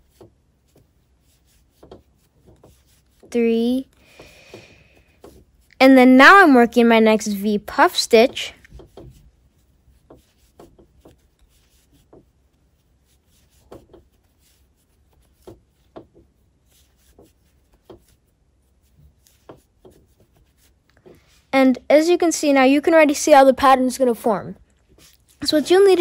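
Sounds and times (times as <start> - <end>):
crochet hook and yarn rustling: 0.0 - 23.8, 24.6 - 26.0.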